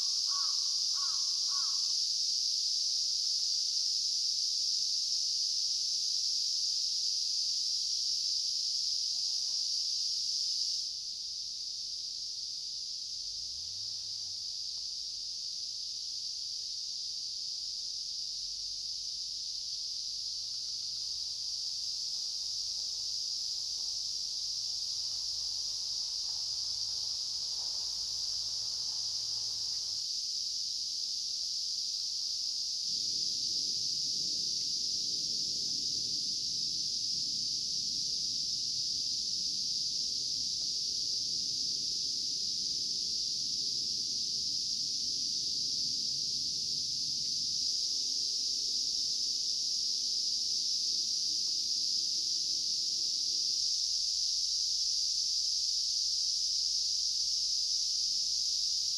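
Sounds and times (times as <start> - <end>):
shrill insect chorus: 0.0 - 58.9.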